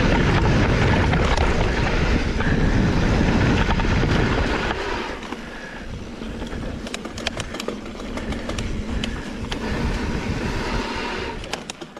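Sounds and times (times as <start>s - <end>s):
wind on microphone: 0.0s - 11.6s
bike clicks and rattles: 0.0s - 11.9s
bike tyres rumbling on dirt: 0.0s - 11.9s.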